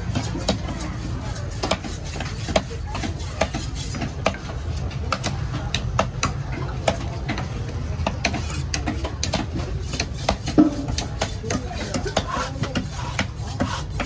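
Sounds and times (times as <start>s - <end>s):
knife chopping on wooden block: 0.0s - 0.9s, 1.5s - 14.0s.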